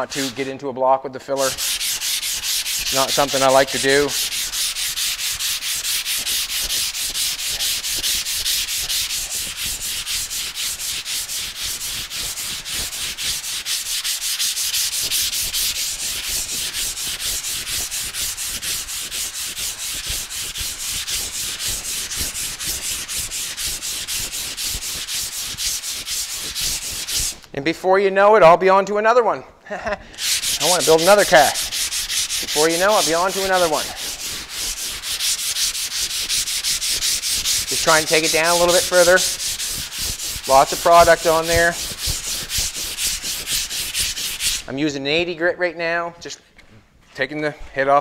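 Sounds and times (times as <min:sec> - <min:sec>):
sanding block rasping on panel: 0:00.0 - 0:00.5, 0:01.4 - 0:27.4, 0:30.2 - 0:44.7.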